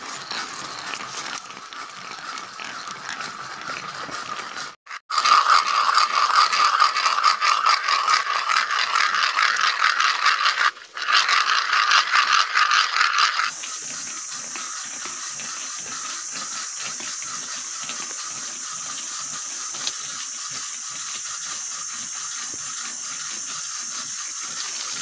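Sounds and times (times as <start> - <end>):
stones grinding against each other: 0.0 - 25.0.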